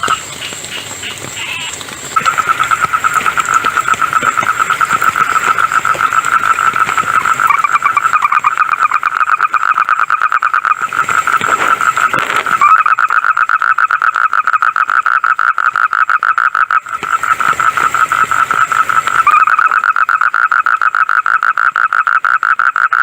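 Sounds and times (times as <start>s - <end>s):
frog trilling: 0.0s - 23.0s.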